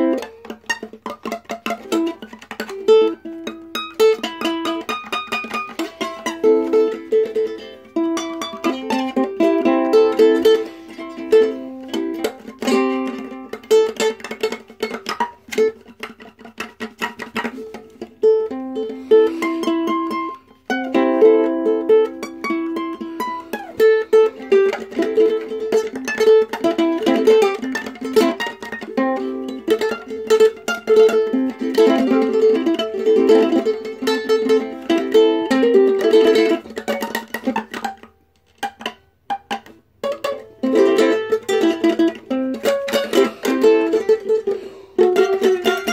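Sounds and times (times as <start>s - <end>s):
ukulele plucked and strummed: 0.0s - 45.9s.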